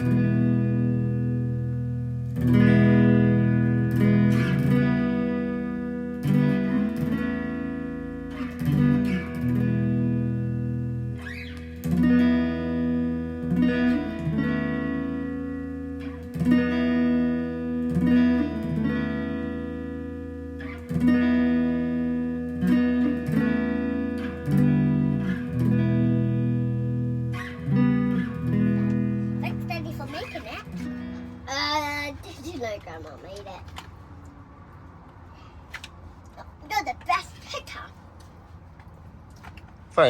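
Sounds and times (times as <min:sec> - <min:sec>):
plucked guitar chords: 0:00.0 - 0:33.7.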